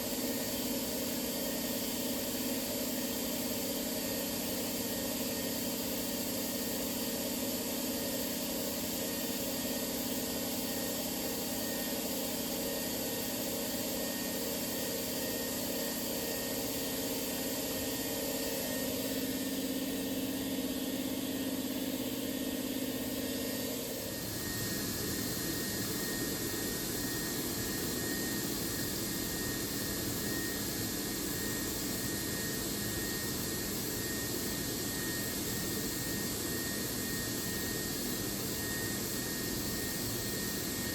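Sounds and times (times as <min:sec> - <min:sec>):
low steady machine tone: 0:00.0 - 0:40.9.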